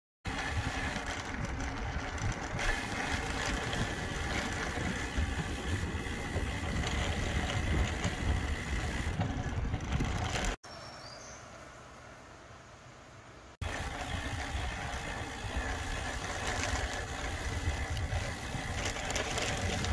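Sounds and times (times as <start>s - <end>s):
wind and road noise: 0.2s - 19.9s.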